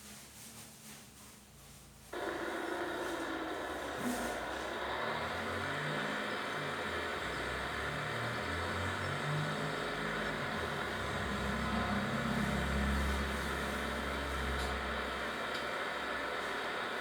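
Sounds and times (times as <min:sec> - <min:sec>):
constant hiss: 0:00.0 - 0:17.0
engine humming: 0:02.2 - 0:17.0.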